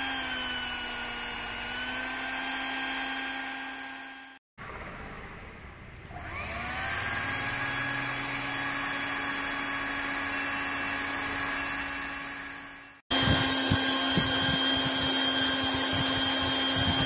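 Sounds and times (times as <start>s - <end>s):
blower motor whining: 0.0s - 4.4s, 6.0s - 17.0s.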